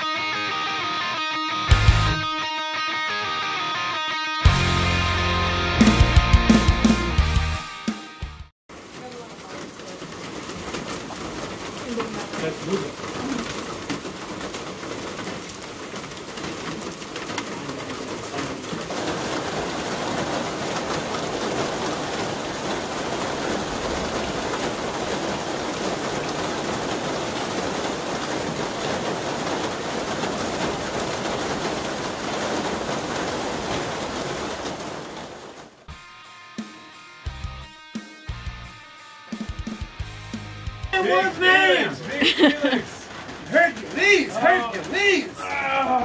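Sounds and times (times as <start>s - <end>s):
steady rain falling: 0.0s - 2.2s, 8.7s - 36.0s, 36.6s - 46.0s.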